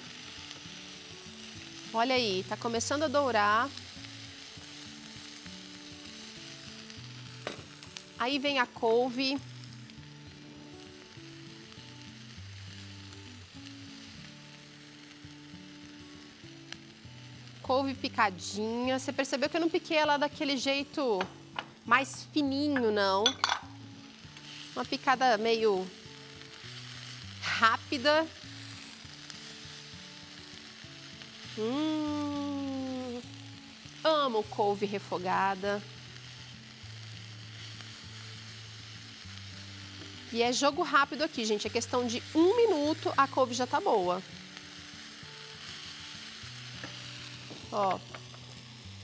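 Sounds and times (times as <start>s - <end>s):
greens sizzling in frying pan: 0.0s - 49.0s
soft background music: 0.0s - 49.0s.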